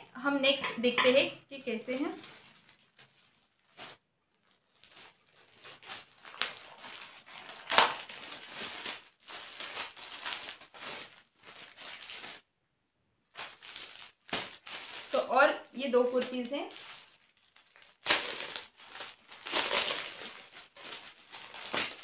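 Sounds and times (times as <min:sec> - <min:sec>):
plastic bags crinkling: 0:01.1 - 0:12.5, 0:13.3 - 0:22.0.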